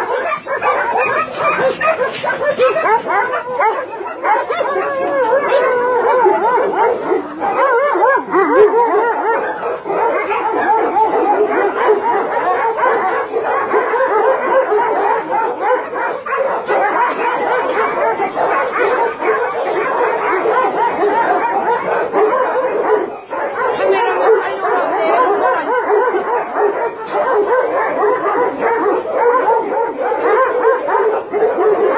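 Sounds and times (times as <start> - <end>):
many dogs barking: 0.0 - 31.9.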